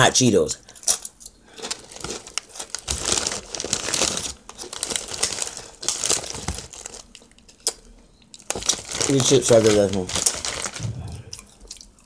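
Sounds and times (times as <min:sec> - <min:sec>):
chip bag crinkling: 0:00.7 - 0:07.8, 0:08.4 - 0:12.0.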